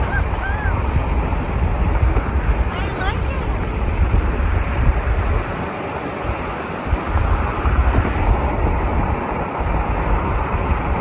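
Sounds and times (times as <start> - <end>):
steady rushing outdoor noise: 0.0 - 11.0
wind buffeting microphone: 0.0 - 11.0.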